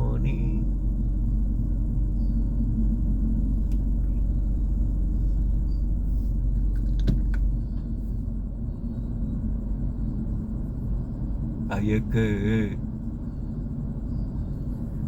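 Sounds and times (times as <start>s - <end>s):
freight train rumbling: 0.0s - 15.0s.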